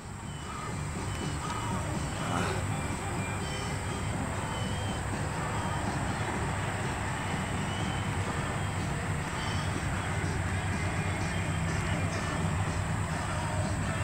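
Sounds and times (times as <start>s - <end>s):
faint high chirps: 0.0s - 12.4s.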